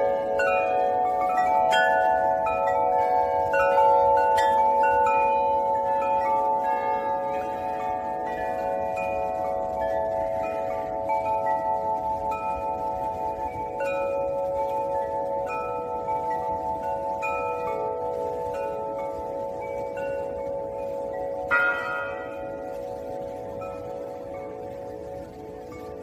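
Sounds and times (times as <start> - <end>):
tubular wind chimes ringing: 0.0 - 26.0.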